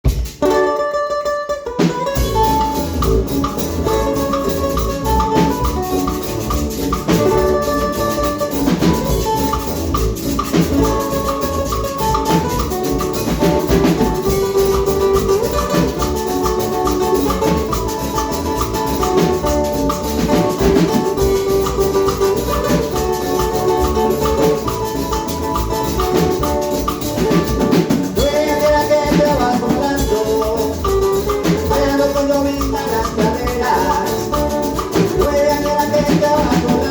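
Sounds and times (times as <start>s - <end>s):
drums and maracas: 0.0s - 36.9s
latin american instrumental music: 0.0s - 36.9s.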